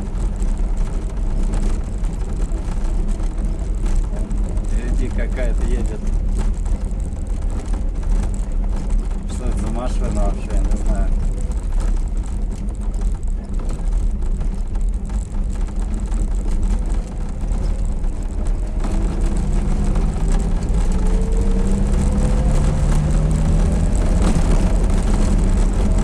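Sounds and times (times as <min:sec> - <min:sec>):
van engine and road rumble: 0:00.0 - 0:26.0.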